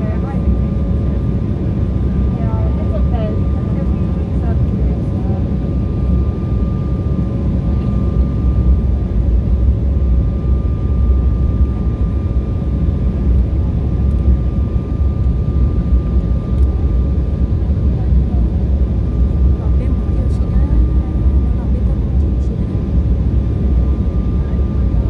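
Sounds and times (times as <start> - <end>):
jet cabin rumble: 0.0 - 25.0
thin steady whine: 0.0 - 25.0.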